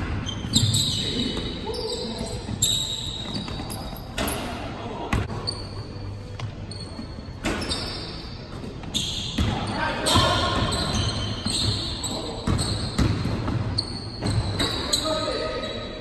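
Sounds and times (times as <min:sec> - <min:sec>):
sneakers squeaking: 0:00.0 - 0:16.0.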